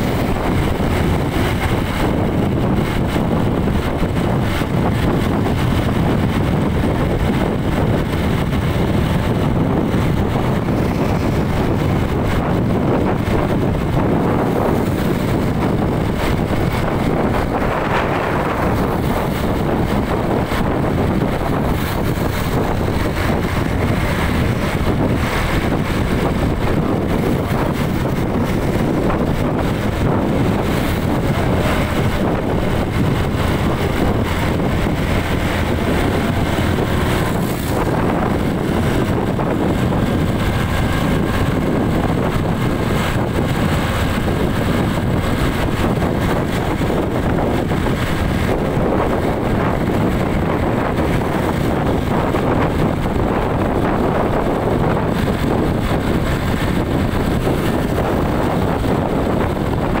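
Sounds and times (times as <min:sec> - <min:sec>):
vehicle road and engine noise: 0:00.0 - 1:00.0
wind buffeting microphone: 0:00.0 - 1:00.0.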